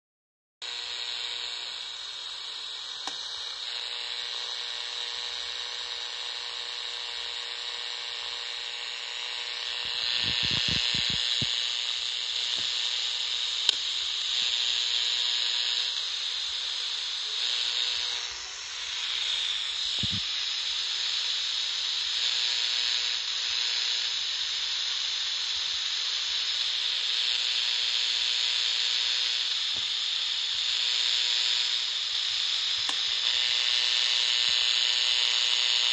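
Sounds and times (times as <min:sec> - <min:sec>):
radio static buzzing: 0:00.6 - 0:35.9.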